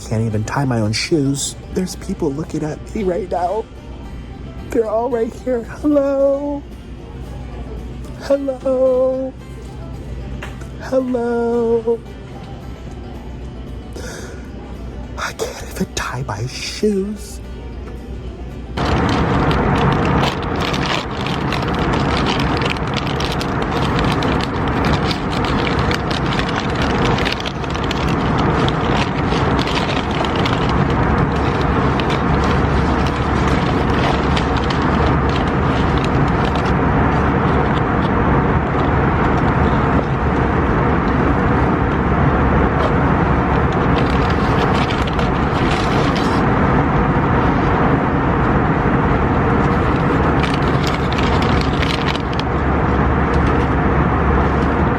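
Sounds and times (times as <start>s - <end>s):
loud vehicle noise: 0.0s - 54.9s.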